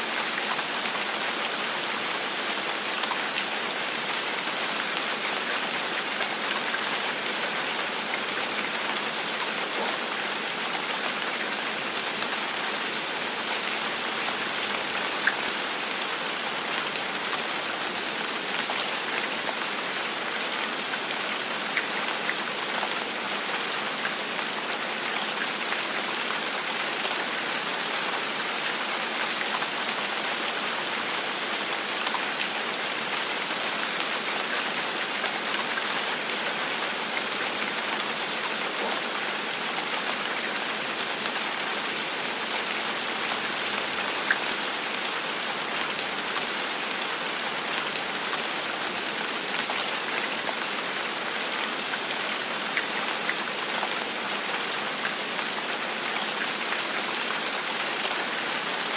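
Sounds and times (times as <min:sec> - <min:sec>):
gentle rain falling: 0:00.0 - 0:58.9.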